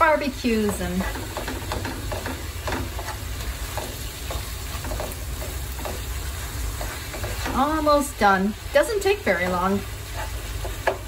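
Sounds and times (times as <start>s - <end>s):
meat sizzling in a frying pan: 0.0s - 11.0s
spatula scraping a pan: 0.2s - 8.3s, 9.0s - 11.0s.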